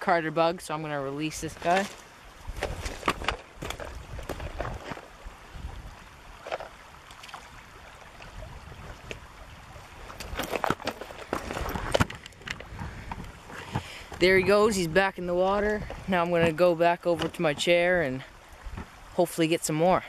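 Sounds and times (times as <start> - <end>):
river water sloshing and splashing: 1.0 - 19.8.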